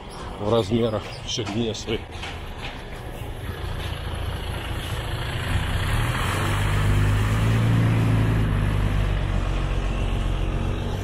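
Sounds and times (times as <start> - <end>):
vehicle engine running: 2.0 - 11.0.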